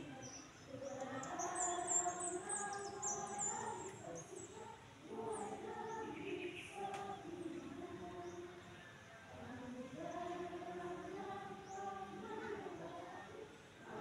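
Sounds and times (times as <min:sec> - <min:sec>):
birds chirping: 0:00.0 - 0:08.6, 0:10.0 - 0:13.2
group singing held notes: 0:00.0 - 0:14.0.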